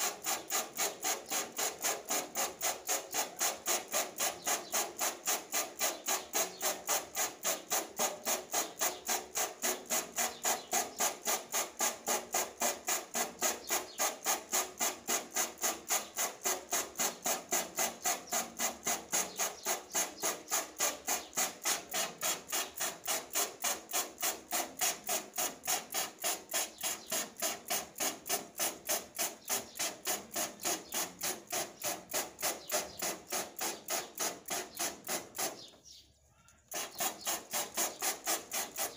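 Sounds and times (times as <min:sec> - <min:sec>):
spray bottle spritzing: 0:00.0 - 0:35.7, 0:36.6 - 0:38.9.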